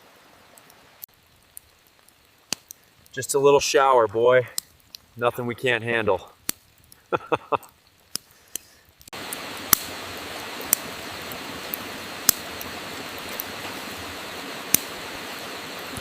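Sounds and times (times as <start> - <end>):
rain hissing: 0.0 - 16.0
sharp pops and ticks: 0.6 - 15.2.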